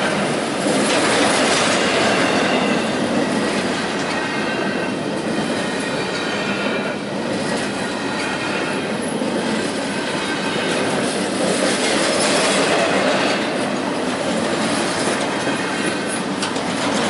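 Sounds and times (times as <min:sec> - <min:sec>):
train wheels rumbling over rail joints: 0:00.0 - 0:17.0.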